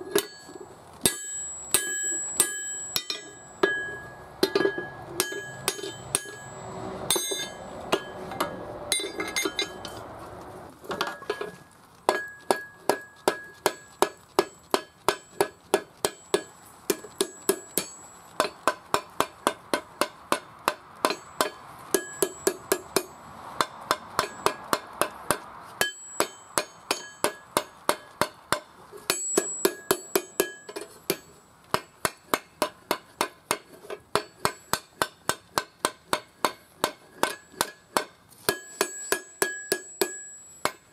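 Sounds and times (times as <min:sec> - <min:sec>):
hammer blows on anvil: 0:00.0 - 0:09.9, 0:12.1 - 0:40.9
metallic ring: 0:00.0 - 0:10.0, 0:11.0 - 0:18.8, 0:19.4 - 0:24.8, 0:25.8 - 0:31.4, 0:36.8 - 0:40.9.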